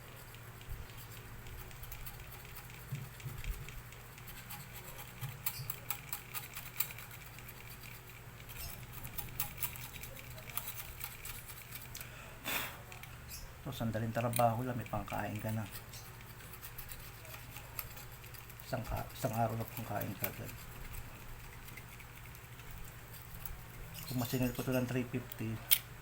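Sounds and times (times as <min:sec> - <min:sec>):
clicks and scratches of hand work: 0:00.0 - 0:12.1, 0:14.0 - 0:26.0
steady low hum: 0:00.0 - 0:26.0.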